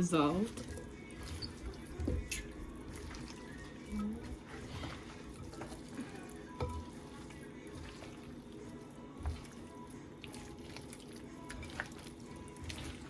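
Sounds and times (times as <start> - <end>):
hands squishing raw chicken: 0.3 - 13.0.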